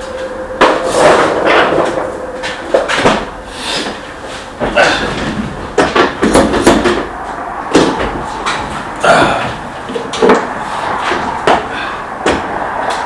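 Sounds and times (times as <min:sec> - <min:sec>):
knocks and clunks: 0:00.0 - 0:13.0.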